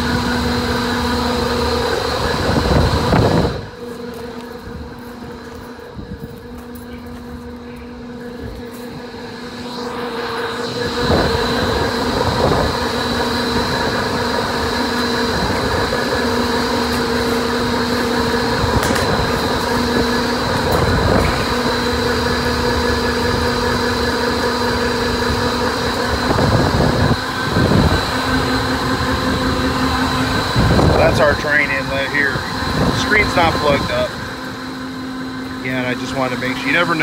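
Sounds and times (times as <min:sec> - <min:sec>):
steady mechanical hum: 0:00.0 - 0:37.0.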